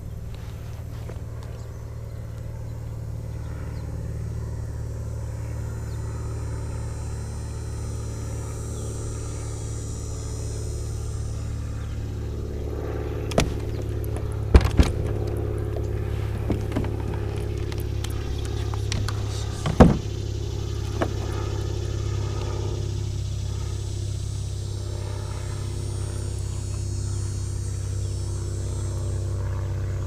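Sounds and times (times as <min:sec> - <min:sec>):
low motor hum: 0:00.0 - 0:30.0.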